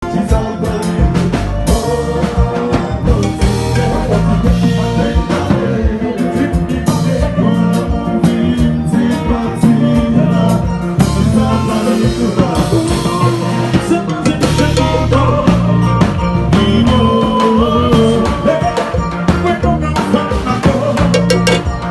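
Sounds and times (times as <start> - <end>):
band playing live: 0.0 - 21.9
drum kit groove: 0.0 - 21.9
electric bass line: 0.0 - 21.9.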